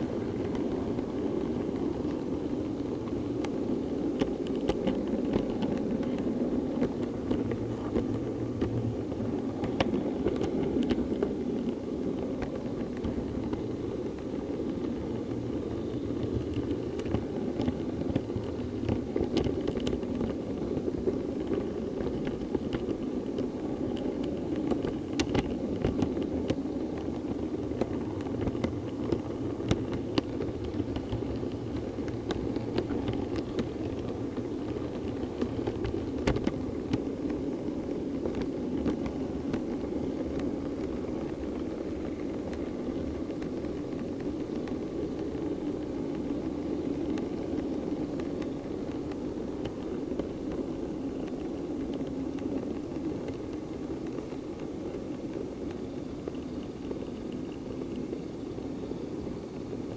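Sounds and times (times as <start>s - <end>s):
locomotive motor and wheel rumble: 0.0s - 59.9s
wheels clicking over rail joints: 0.0s - 59.9s.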